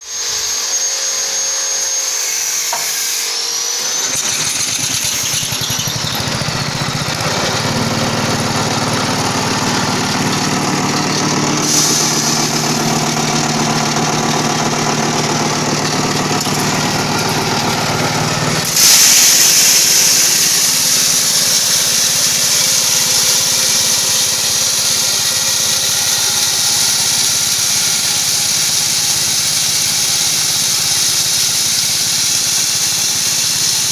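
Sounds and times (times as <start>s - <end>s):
grinding mill humming: 0.0s - 33.9s.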